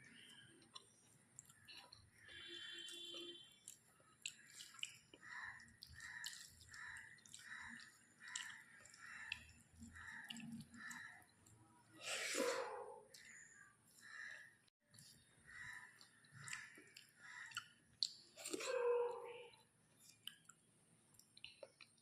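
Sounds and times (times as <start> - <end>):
chewing food: 0.0 - 22.0.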